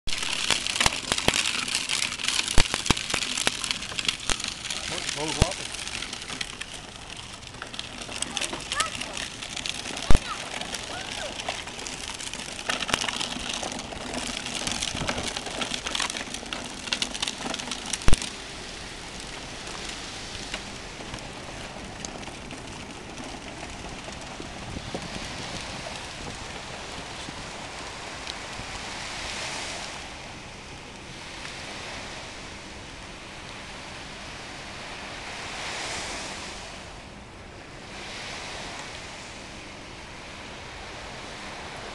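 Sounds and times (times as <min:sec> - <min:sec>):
toy wheels crackling on sand: 0:00.0 - 0:41.9
wind: 0:00.0 - 0:41.9
surf: 0:00.1 - 0:41.9.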